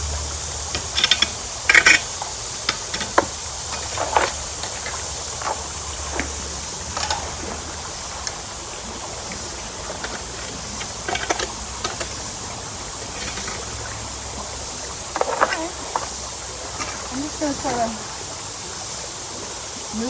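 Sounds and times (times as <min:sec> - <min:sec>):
water running: 0:00.0 - 0:20.0.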